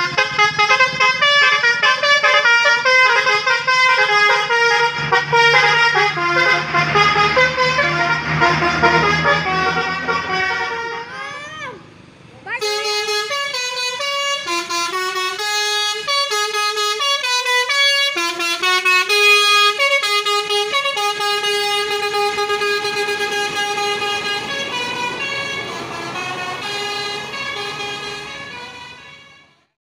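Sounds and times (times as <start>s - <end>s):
bus musical air horn: 0.0s - 29.8s.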